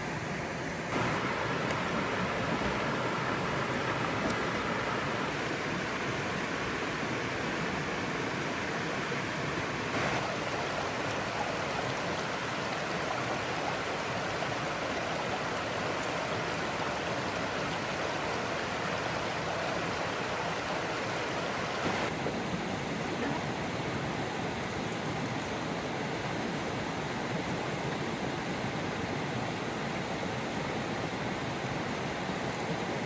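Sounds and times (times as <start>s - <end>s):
flowing water rushing: 0.0s - 33.0s.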